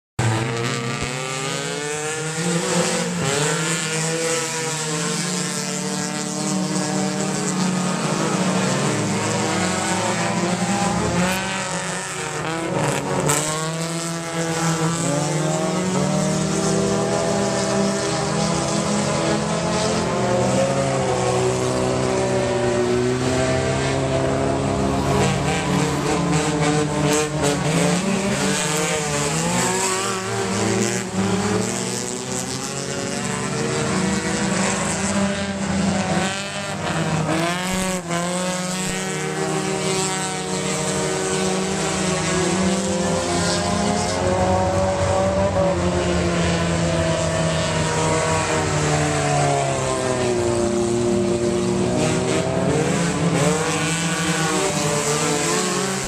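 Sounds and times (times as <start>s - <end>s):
race car engines passing: 0.2s - 56.0s.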